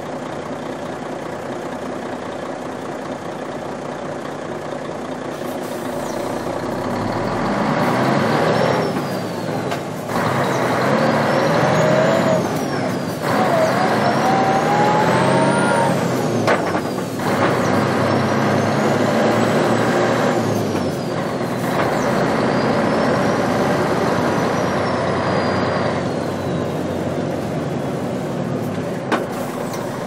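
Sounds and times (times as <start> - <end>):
truck engine accelerating: 0.0 - 30.0.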